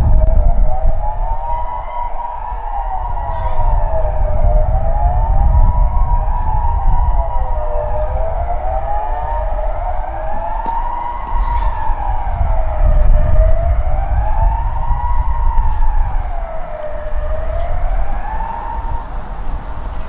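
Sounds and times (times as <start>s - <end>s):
wailing civil defence sirens: 0.0s - 20.0s.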